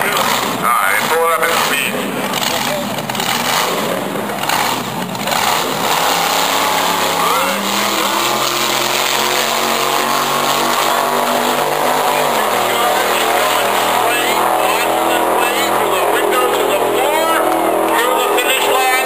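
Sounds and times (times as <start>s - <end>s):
drag racing car engine at full throttle: 0.0s - 19.0s.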